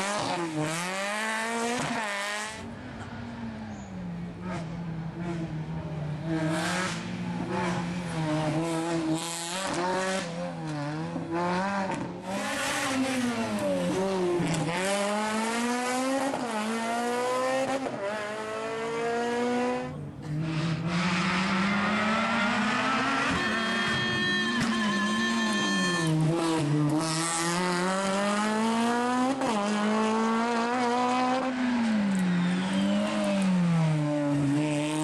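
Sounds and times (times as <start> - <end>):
rally car engine revving: 0.0 - 35.0.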